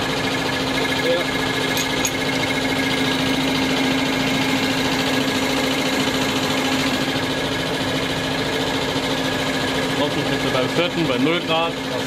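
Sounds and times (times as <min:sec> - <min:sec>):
test bench mechanical hum: 0:00.0 - 0:12.0.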